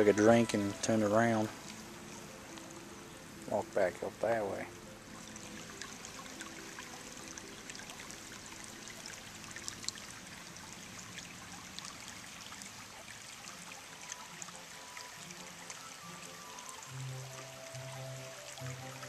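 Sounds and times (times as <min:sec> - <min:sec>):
water trickling over stones: 0:00.0 - 0:19.0.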